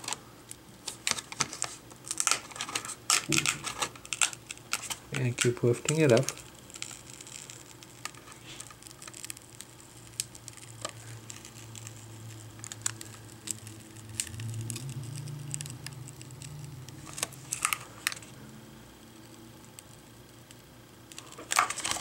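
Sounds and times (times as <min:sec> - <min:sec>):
plastic clicks and crackles: 0:00.0 - 0:18.4, 0:20.5 - 0:22.0
low steady hum: 0:00.0 - 0:22.0.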